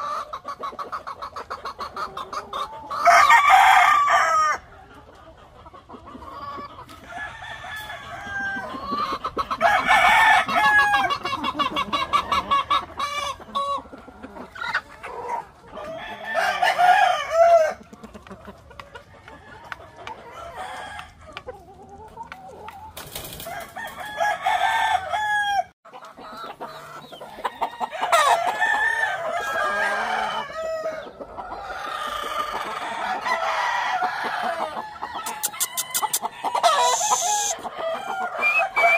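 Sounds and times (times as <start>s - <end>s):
hens clucking: 0.0s - 38.9s
roosters crowing: 1.7s - 4.7s, 6.2s - 18.0s, 19.1s - 21.3s, 22.8s - 38.9s.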